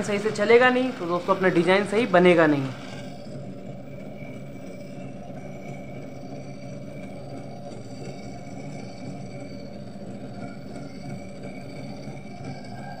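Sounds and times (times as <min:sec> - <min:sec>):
faint high whine: 0:00.0 - 0:13.0
small motor whirring: 0:00.0 - 0:13.0.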